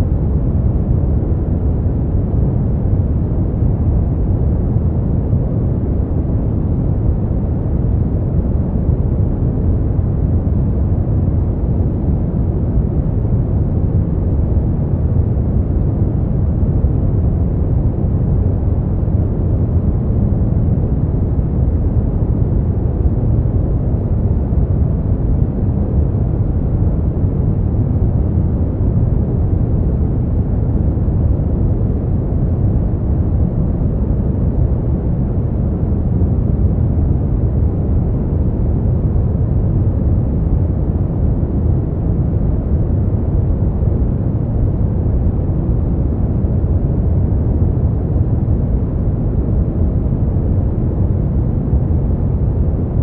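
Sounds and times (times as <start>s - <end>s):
brown noise rumbling hiss: 0.0s - 53.0s.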